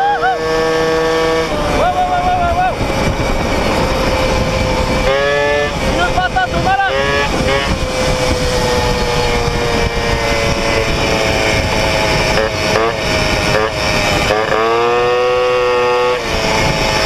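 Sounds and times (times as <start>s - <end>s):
moped engine at high revs: 0.0s - 17.0s.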